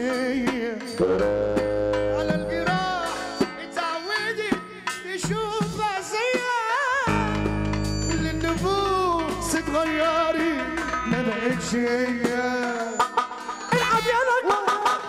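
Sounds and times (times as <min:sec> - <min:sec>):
ornamented melody line: 0:00.0 - 0:05.8, 0:07.0 - 0:15.0
drum strikes: 0:00.0 - 0:15.0.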